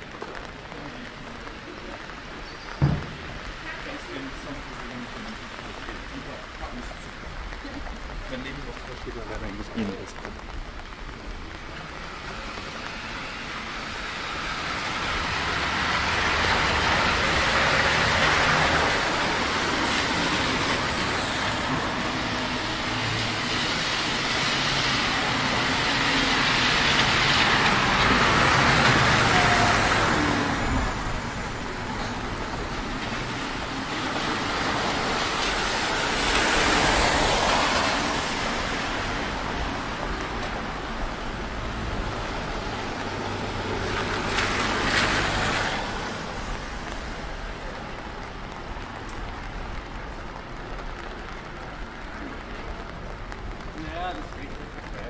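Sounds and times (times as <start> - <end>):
tyres hissing on wet asphalt: 0.0 - 55.0.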